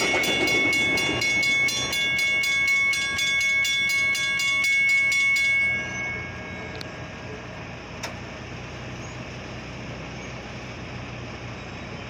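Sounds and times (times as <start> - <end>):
idling road vehicles rumble: 0.0 - 12.0.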